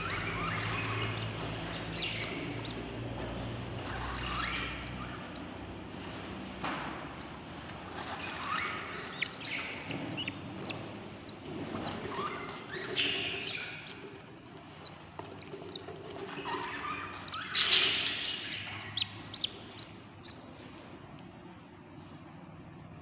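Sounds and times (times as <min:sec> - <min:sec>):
rough noisy chatter: 0:00.0 - 0:20.3
baby birds chirping: 0:00.0 - 0:20.7.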